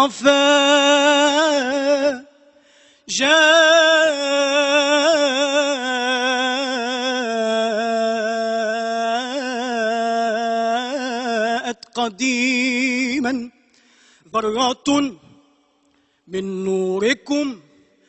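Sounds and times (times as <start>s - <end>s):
man singing devotional chant: 0.0s - 13.6s, 14.3s - 15.3s, 16.3s - 17.7s.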